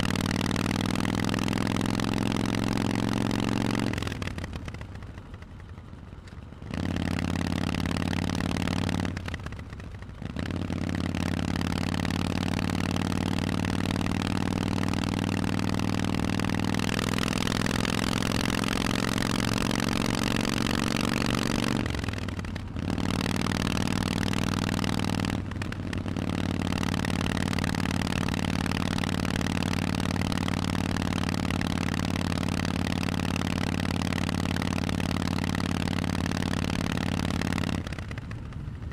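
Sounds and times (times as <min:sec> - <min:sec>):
motorcycle engine revving: 0:00.0 - 0:04.8, 0:06.6 - 0:38.9.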